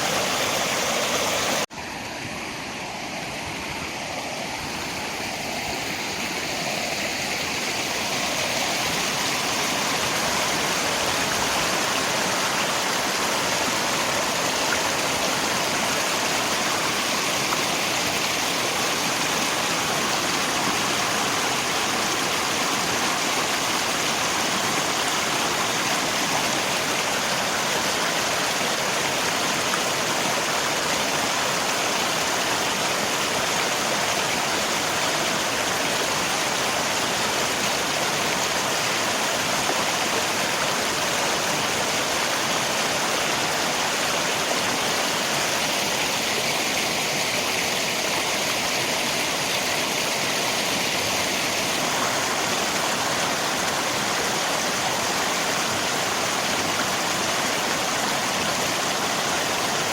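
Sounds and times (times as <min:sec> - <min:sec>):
flowing river: 0:00.0 - 0:59.9
rain: 0:00.0 - 0:59.9.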